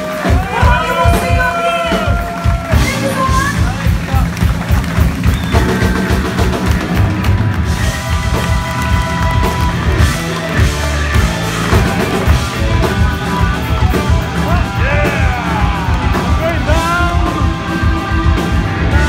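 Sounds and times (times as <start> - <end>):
blues-rock band playing: 0.0 - 19.0
drum kit beat: 0.0 - 19.0.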